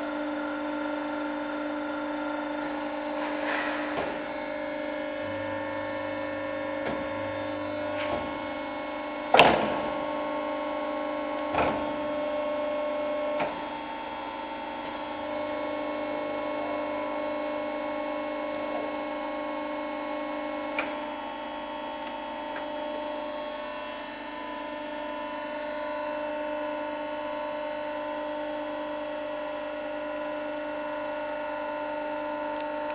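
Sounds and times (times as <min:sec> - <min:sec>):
bending roll machine humming: 0:00.0 - 0:32.9.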